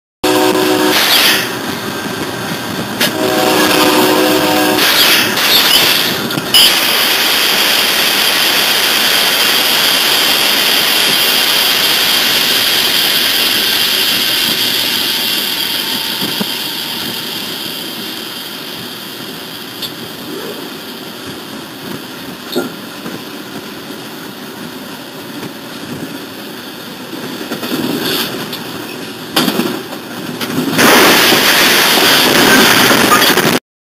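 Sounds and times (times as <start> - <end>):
locomotive rushing noise: 0.2 - 33.6
trains crashing: 0.2 - 33.6.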